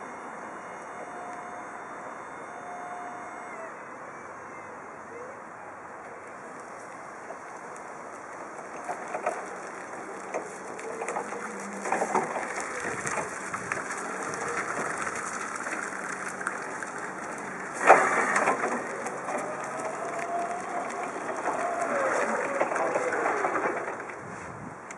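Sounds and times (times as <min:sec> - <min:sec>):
electric forklift whine: 0:00.0 - 0:24.9
tyres on paving stones: 0:00.0 - 0:24.9.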